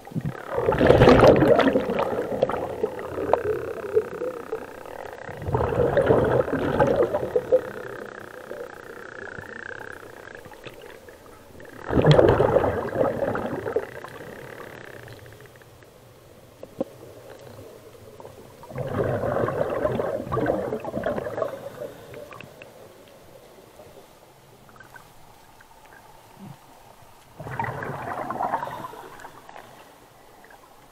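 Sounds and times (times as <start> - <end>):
underwater exhaust bubbles: 0.0 - 15.9, 16.5 - 23.2, 27.3 - 30.9.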